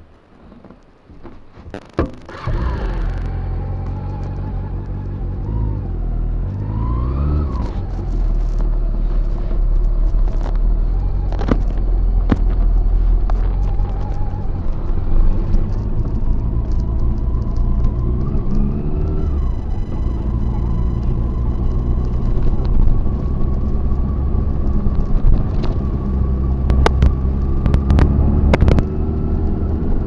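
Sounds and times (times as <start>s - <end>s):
wind rumble: 1.7s - 30.0s
motorcycle engine accelerating: 2.2s - 30.0s.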